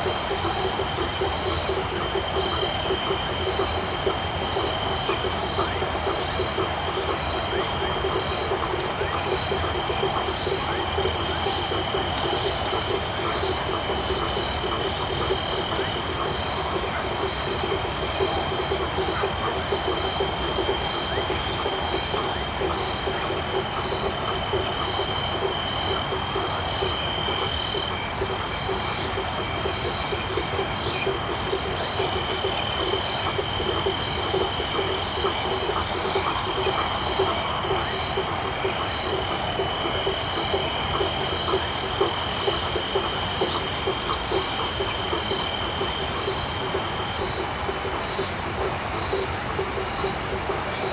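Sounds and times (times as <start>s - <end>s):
crickets trilling: 0.0s - 19.2s, 19.8s - 50.9s
frogs calling: 0.0s - 21.3s, 22.9s - 50.9s.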